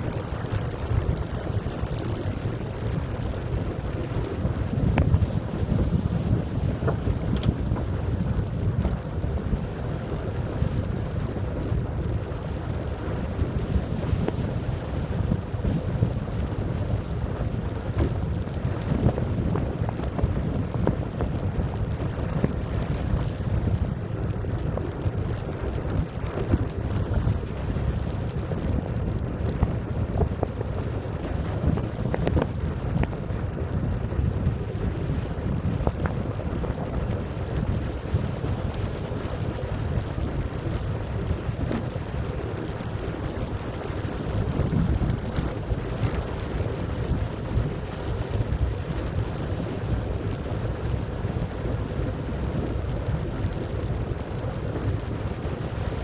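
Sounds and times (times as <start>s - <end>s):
tyre rumble on asphalt: 0.0s - 56.0s
wind on microphone: 0.0s - 56.0s.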